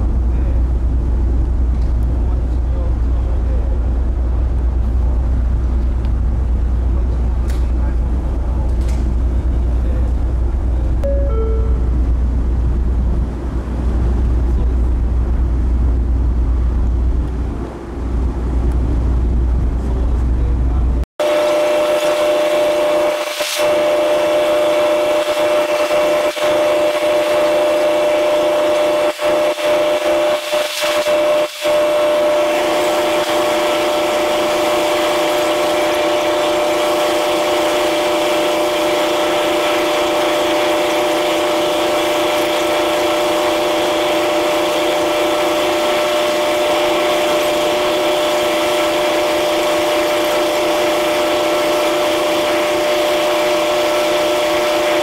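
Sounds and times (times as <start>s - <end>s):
ferry machinery humming: 0.0s - 55.0s.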